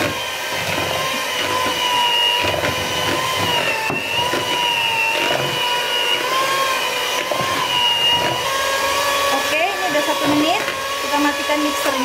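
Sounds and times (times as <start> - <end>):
electric mixer motor whining: 0.0 - 12.0.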